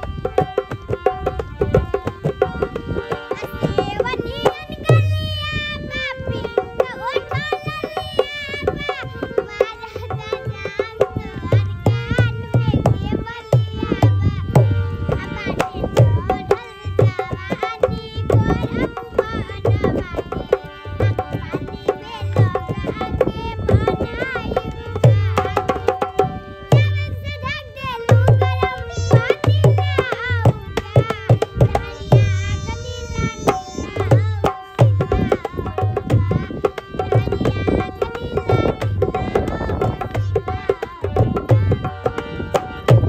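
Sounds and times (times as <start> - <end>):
girl singing folk song: 0.0 - 43.0
harmonium: 0.0 - 43.0.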